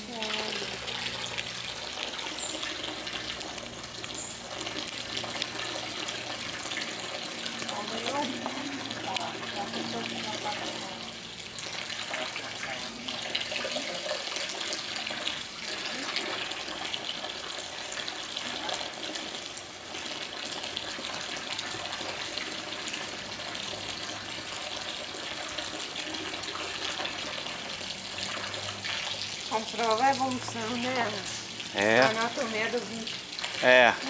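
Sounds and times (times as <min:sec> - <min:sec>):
water pouring into pool: 0:00.0 - 0:34.0.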